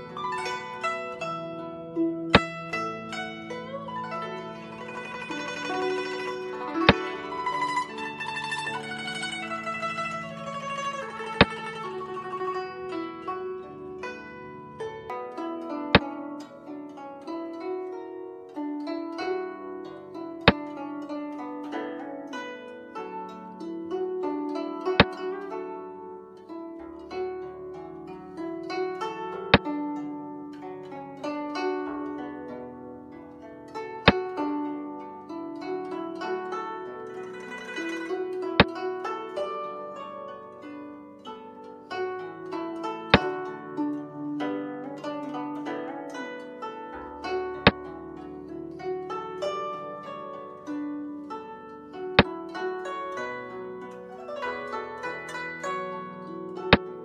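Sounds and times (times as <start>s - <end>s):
plucked-string background music: 0.0s - 57.0s.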